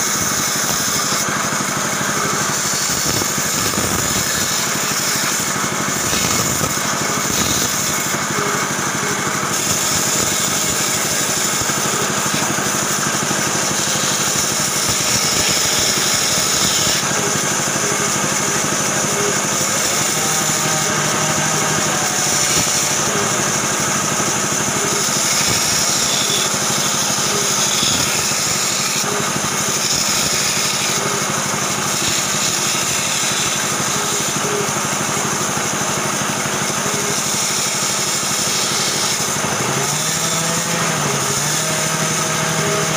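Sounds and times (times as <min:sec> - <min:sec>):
band saw cutting wood: 0:00.0 - 0:42.9.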